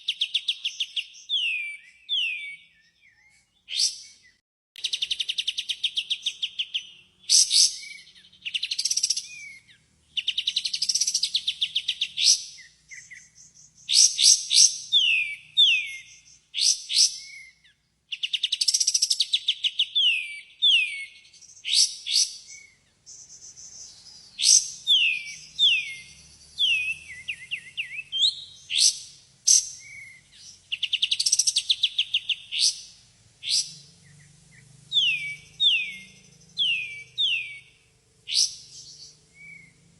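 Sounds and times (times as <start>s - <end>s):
bird song with chattering trills: 0.0s - 39.9s.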